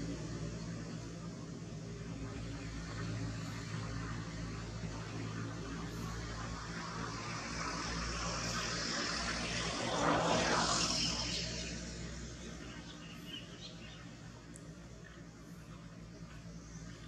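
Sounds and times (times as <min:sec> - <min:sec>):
steady low hum: 0:00.0 - 0:17.0
vehicle passing by: 0:00.0 - 0:17.0.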